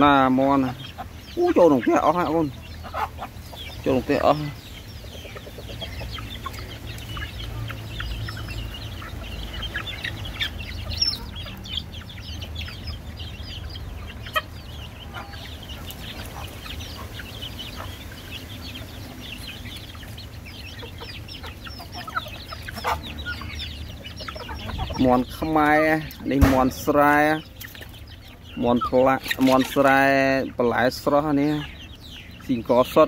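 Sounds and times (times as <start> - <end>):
chicks peeping: 0.0 - 33.0
hens clucking: 0.0 - 33.0.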